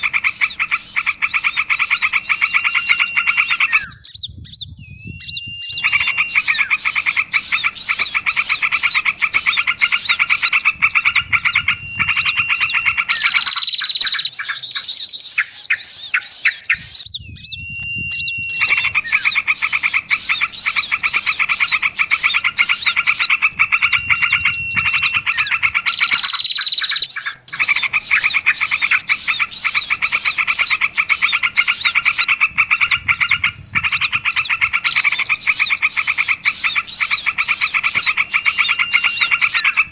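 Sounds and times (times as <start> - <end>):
chorus of songbirds chirping: 0.0 - 39.9.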